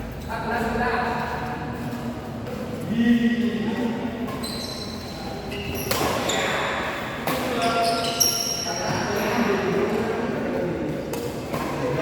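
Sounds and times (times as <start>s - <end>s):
shoes squeaking on court floor: 0.0s - 10.0s
voices murmuring: 0.3s - 12.0s.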